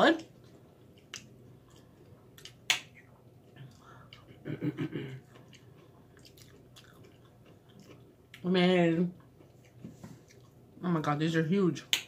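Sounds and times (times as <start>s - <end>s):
person chewing: 0.2s - 8.5s, 9.2s - 10.7s.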